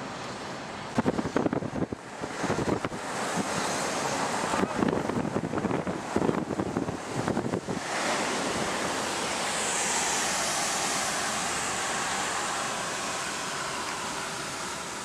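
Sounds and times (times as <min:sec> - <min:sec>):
car interior wind and road noise: 0:00.0 - 0:15.0.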